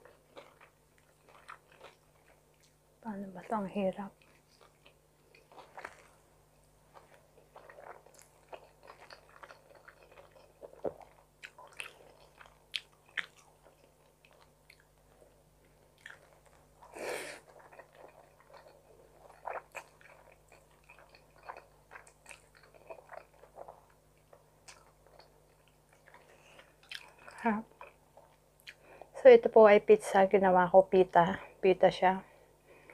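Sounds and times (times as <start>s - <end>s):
person chewing food: 0.0s - 3.0s, 4.2s - 29.1s.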